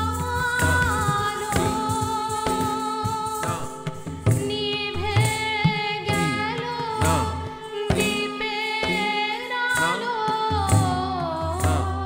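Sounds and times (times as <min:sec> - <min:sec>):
tabla strokes: 0:00.0 - 0:12.0.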